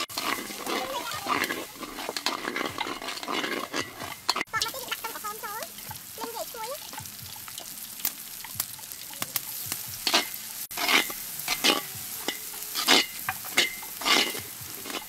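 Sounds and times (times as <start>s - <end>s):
metal spatula scraping a wok: 0.0s - 15.0s
shallots sizzling in hot oil: 0.0s - 15.0s.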